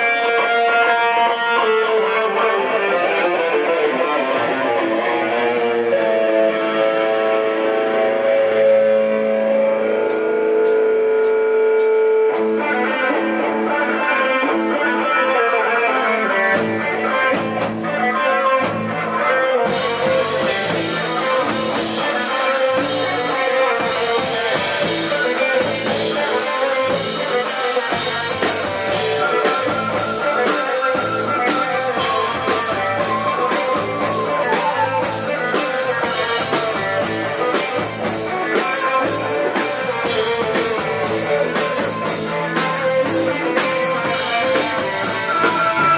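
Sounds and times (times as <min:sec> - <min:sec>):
guitar-led rock music: 0:00.0 - 0:45.9.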